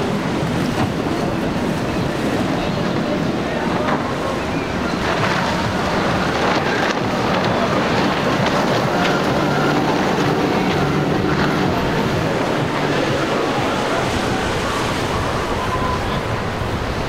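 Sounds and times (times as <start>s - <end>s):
motorboat engines running: 0.0s - 17.0s
wind buffeting microphone: 0.0s - 17.0s.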